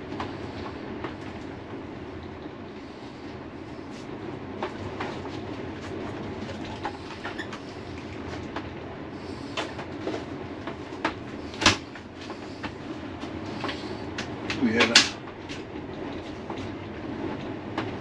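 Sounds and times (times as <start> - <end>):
storm wind rumbling: 0.0 - 18.0.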